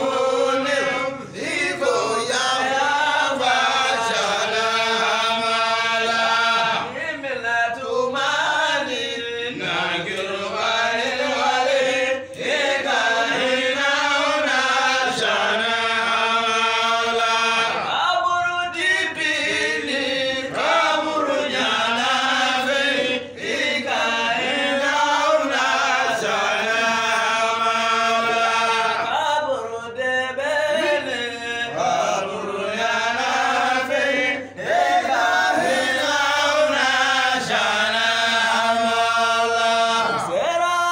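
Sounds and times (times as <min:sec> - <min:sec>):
men chanting a devotional song: 0:00.0 - 0:40.9.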